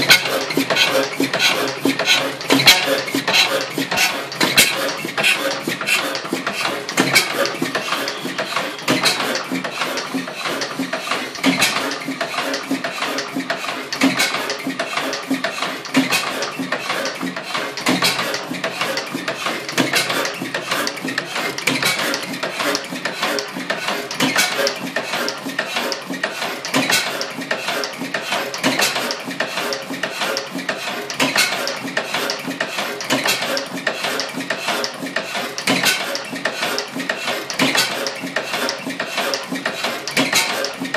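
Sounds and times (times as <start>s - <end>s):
old oil engine clattering: 0.0s - 40.9s.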